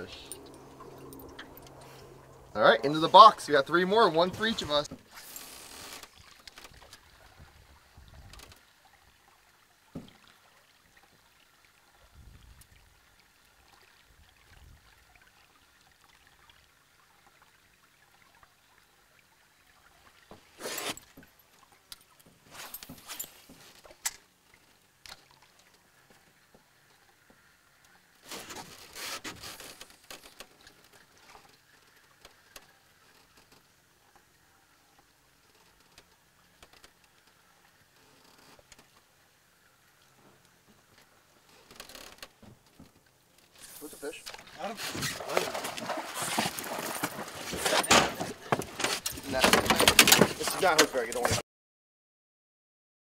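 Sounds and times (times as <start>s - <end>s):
faint trickling water: 0.0s - 49.6s, 50.4s - 51.4s.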